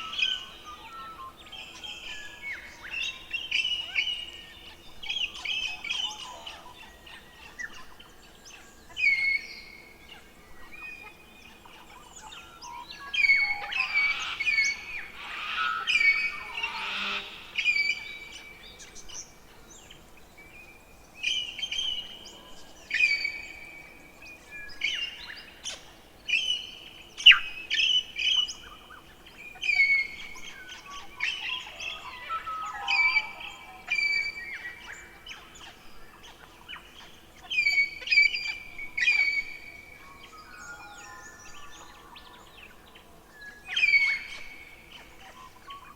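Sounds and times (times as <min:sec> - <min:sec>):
faint hum: 0:00.0 - 0:45.9
songbirds singing: 0:00.0 - 0:45.9.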